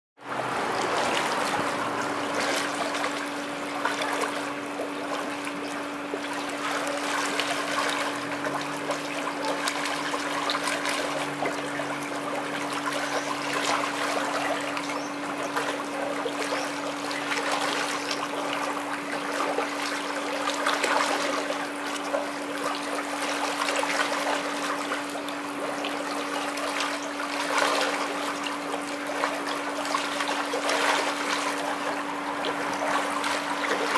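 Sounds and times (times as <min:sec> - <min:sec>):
steady hum: 0:00.2 - 0:33.9
swimmer splashing: 0:00.2 - 0:33.9
water jet rushing: 0:00.2 - 0:33.9.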